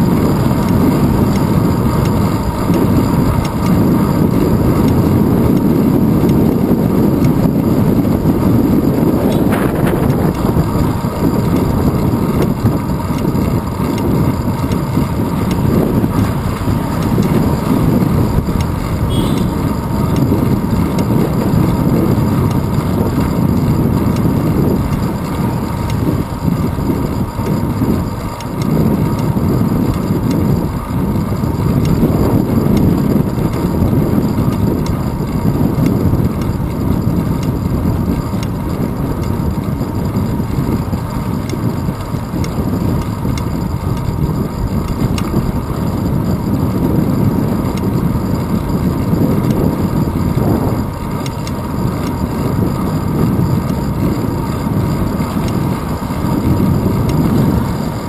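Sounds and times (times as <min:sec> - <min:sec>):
bike road vibration on asphalt: 0:00.0 - 0:58.0
wind buffeting: 0:00.0 - 0:58.0.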